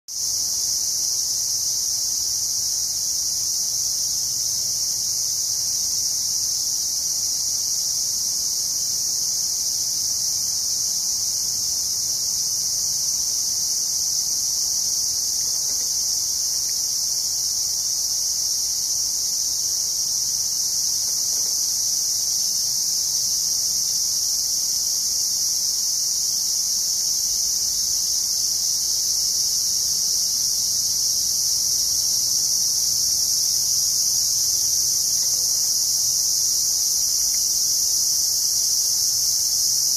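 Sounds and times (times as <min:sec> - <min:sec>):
insects chirring: 0:00.1 - 0:39.9.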